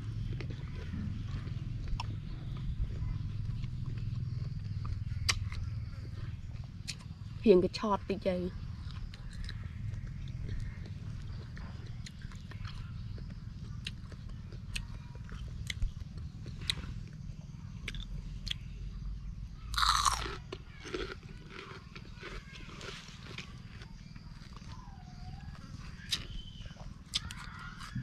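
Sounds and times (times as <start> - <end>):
crunching bites and chewing fruit: 0.0 - 28.0.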